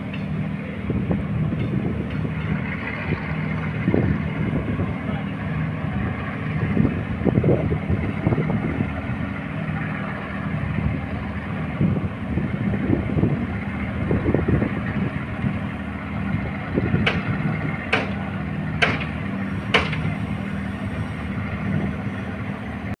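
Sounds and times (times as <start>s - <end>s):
boat engine humming: 0.0s - 23.0s.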